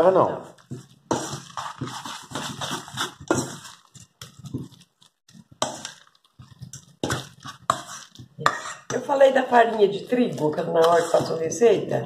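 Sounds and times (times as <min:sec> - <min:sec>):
thick paste squelching: 0:00.5 - 0:11.6
spoon scraping metal bowl: 0:00.6 - 0:12.0.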